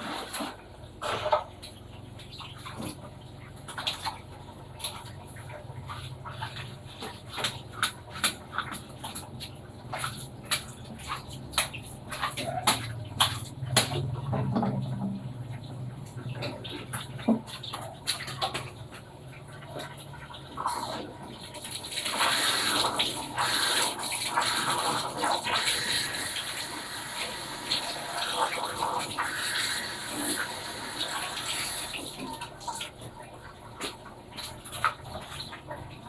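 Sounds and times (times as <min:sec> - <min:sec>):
water gushing into washing machine: 0:00.0 - 0:36.0.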